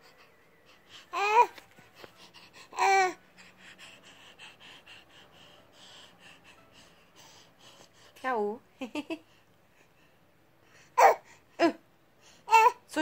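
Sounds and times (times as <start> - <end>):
baby breathy huffs: 0.0 - 8.2, 9.3 - 11.6.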